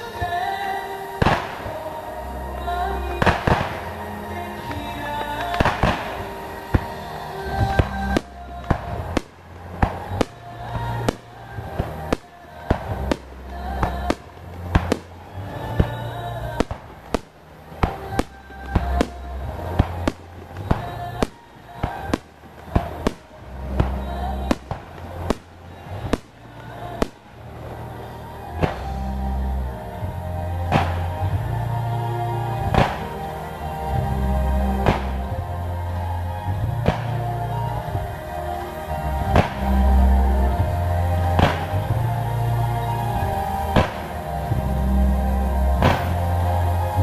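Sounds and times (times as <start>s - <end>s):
fireworks bursting: 0.0s - 47.0s
music with deep bass: 0.0s - 47.0s.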